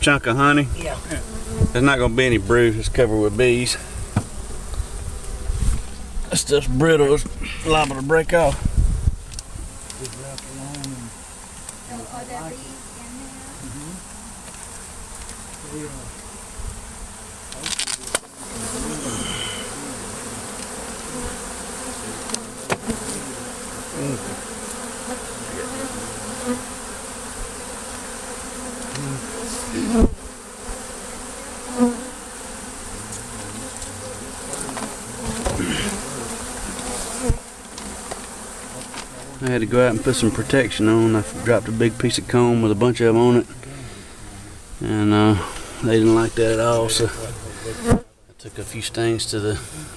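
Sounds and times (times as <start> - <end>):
bees buzzing: 0.0 - 49.9.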